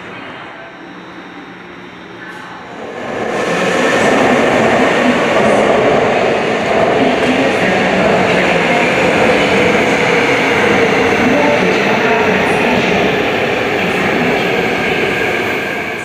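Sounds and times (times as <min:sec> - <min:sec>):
wheels rushing on rail: 0:02.7 - 0:16.0.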